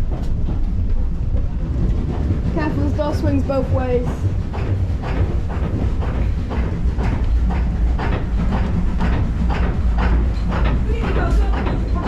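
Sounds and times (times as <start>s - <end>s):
steam train rumbling: 0.0s - 12.0s.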